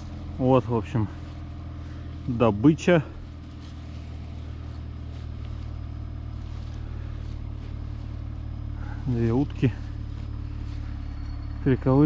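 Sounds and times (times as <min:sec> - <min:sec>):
faint rustles: 0:00.0 - 0:11.7
vehicle engine idling: 0:00.0 - 0:12.0.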